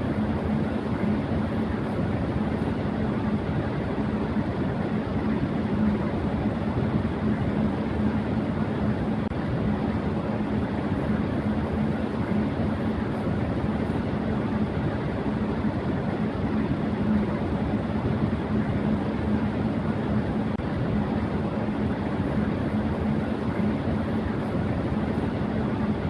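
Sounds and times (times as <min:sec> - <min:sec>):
electric fan running: 0:00.0 - 0:26.0.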